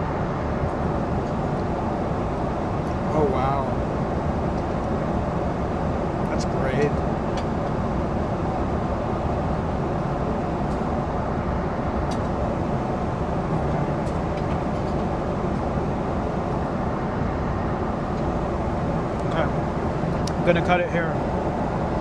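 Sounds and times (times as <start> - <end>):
airliner engines and airflow: 0.0 - 22.0.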